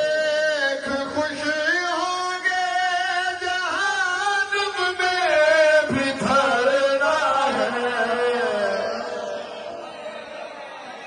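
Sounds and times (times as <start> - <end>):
men singing into microphones: 0.0 - 10.6.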